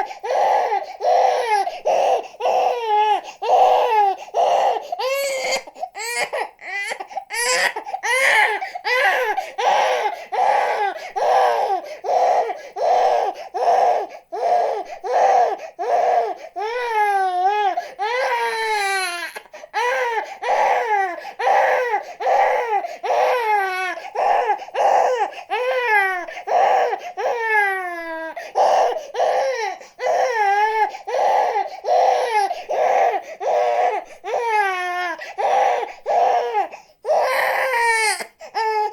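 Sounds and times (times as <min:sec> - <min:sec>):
infant crying: 0:00.0 - 0:38.9.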